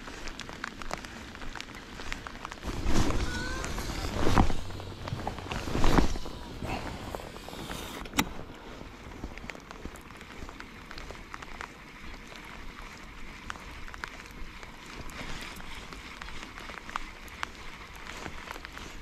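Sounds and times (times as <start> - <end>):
light rain pattering on water: 0.0 - 19.0.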